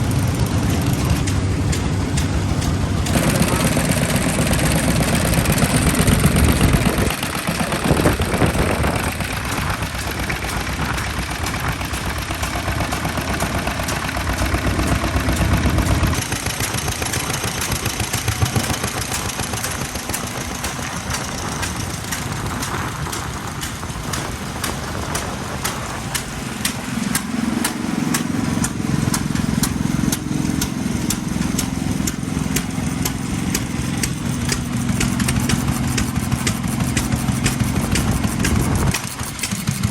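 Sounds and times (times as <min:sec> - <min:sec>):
stationary engines running: 0:00.0 - 0:39.9.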